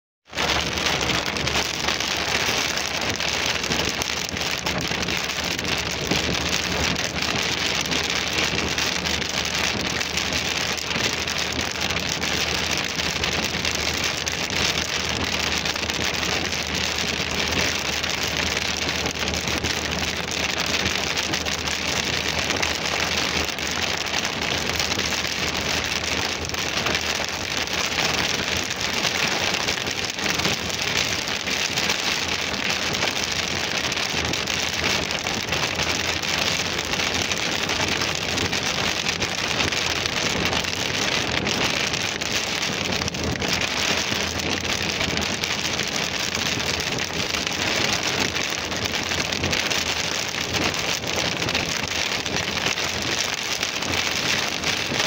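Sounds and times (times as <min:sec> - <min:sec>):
heavy rain on car roof: 0:00.2 - 0:55.0
low car road hum: 0:00.3 - 0:55.0.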